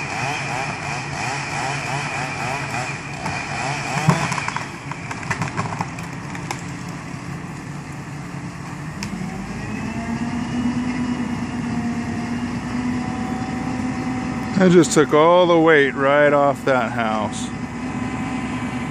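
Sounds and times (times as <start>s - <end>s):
crane diesel engine running: 0.0s - 18.9s.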